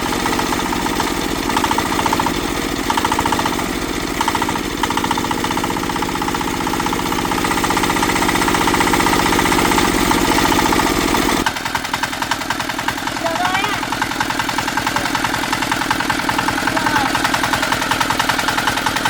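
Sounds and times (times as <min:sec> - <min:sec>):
tractor engine chugging: 0:00.0 - 0:19.0.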